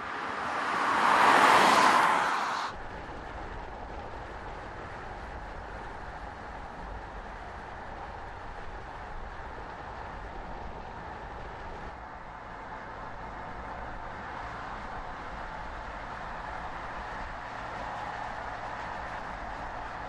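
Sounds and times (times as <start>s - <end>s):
car engine: 0.0s - 20.0s
tyre and road noise: 0.0s - 20.0s.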